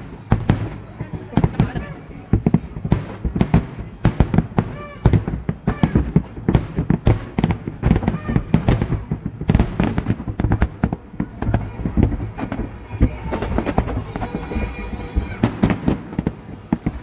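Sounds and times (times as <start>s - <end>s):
deep fireworks booms: 0.0s - 17.0s
fireworks bangs and cracks: 0.0s - 17.0s.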